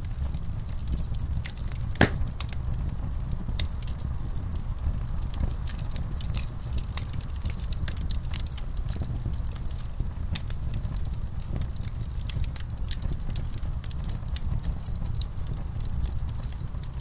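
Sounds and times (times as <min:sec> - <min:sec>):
flames rumbling: 0:00.0 - 0:17.0
wood fire crackling and popping: 0:00.0 - 0:17.0.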